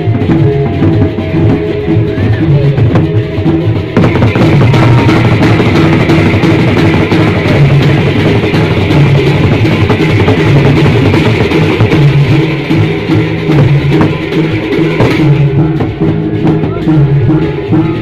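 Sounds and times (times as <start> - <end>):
big drums beaten: 0.0 - 18.0
drum and gong ensemble playing: 0.0 - 18.0
hand cymbals clashing: 0.0 - 18.0.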